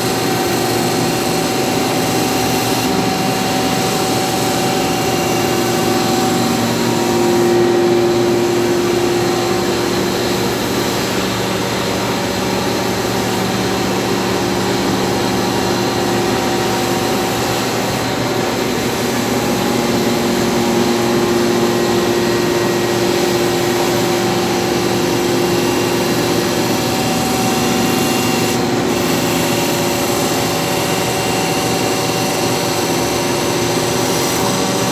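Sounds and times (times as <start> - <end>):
grinder machine hum: 0.0 - 34.9.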